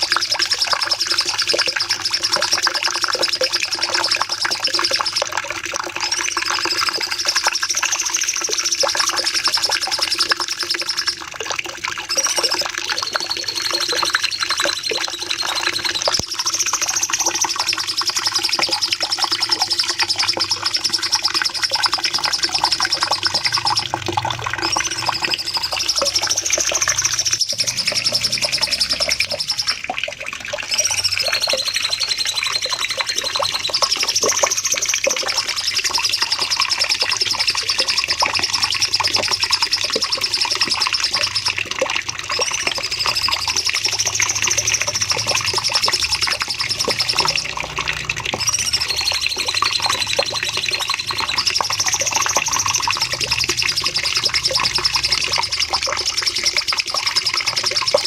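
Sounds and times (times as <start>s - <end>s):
bird singing high-pitched trills: 0.0s - 58.0s.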